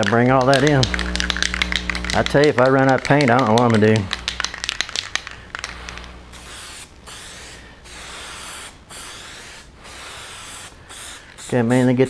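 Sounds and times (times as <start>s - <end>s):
spray can rattling: 0.0s - 12.0s
spray paint hissing: 0.4s - 2.7s, 3.3s - 12.0s.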